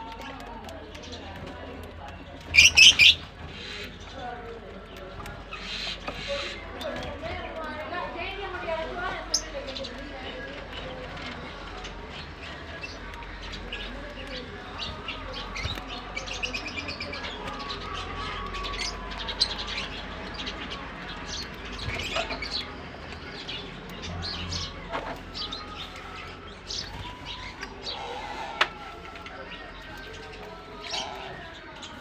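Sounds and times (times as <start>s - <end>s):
birds chirping and twittering: 0.0s - 32.0s.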